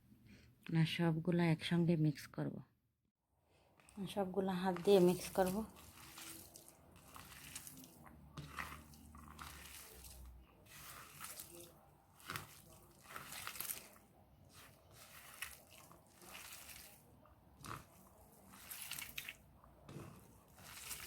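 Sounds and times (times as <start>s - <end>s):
hands kneading raw minced meat: 3.7s - 21.0s.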